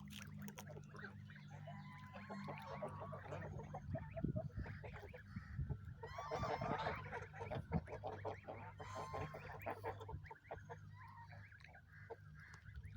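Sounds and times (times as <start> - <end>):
geese honking: 1.5 - 5.2, 6.0 - 12.9.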